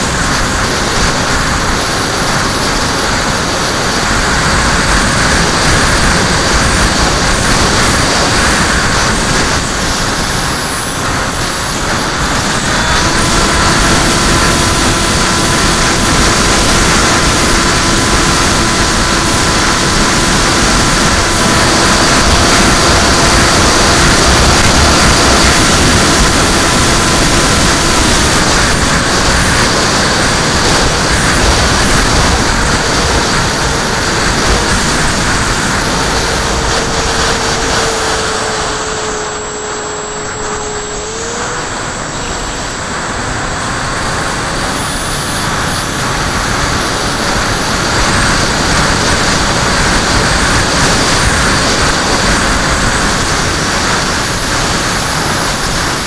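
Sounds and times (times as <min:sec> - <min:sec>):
electric motor whine: 0:00.0 - 0:56.0
wind rushing over camera: 0:00.0 - 0:56.0.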